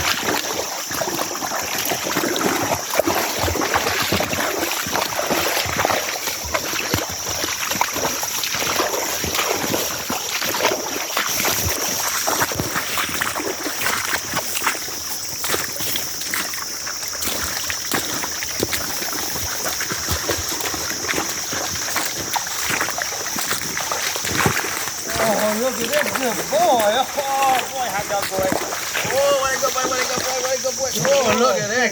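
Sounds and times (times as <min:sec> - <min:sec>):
creek water flowing: 0:00.0 - 0:31.9
splashing and sloshing in water: 0:00.0 - 0:31.9.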